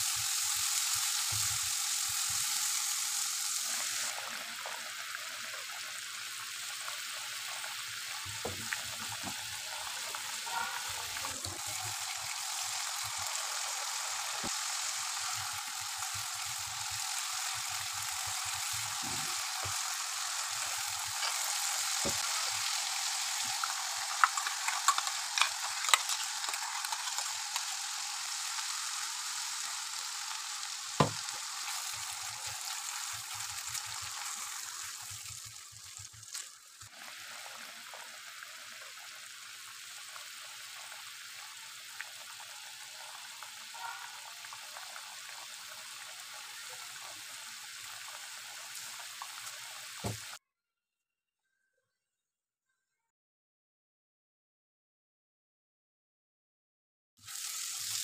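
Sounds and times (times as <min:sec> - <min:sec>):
paste sizzling in oil: 0:00.0 - 0:50.4, 0:57.2 - 0:58.0.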